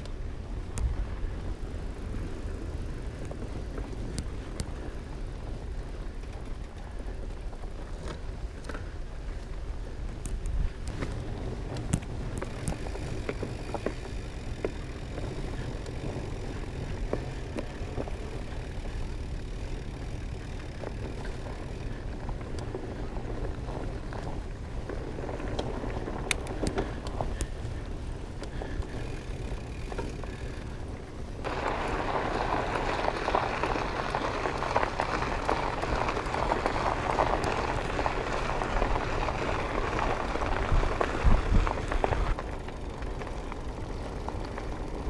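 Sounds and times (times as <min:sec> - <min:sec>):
bike rolling over dirt trail: 0:00.0 - 0:45.0
tyres rolling on gravel: 0:00.0 - 0:45.0.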